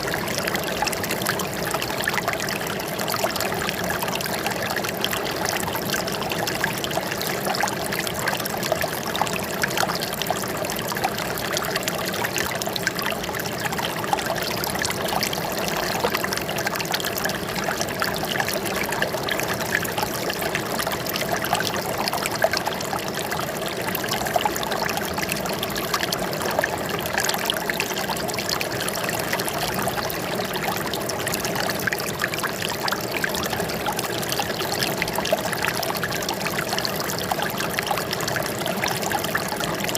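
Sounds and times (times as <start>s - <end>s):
running water trickling and splashing: 0.0s - 39.9s.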